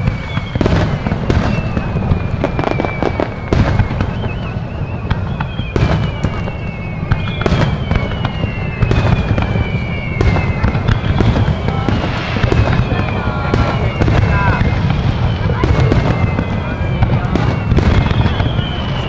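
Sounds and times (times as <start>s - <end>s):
firework whistles gliding down: 0.0s - 19.0s
fireworks bangs and crackling: 0.0s - 19.0s
low rumble: 0.0s - 19.0s.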